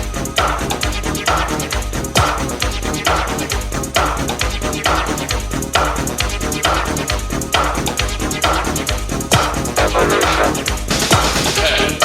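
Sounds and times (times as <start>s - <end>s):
techno music with drum beat: 0.0s - 12.0s.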